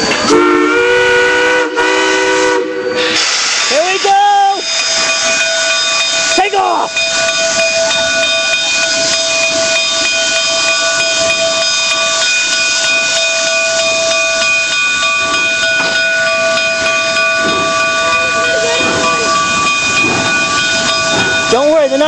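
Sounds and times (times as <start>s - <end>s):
steam locomotive venting steam: 0.0s - 22.0s.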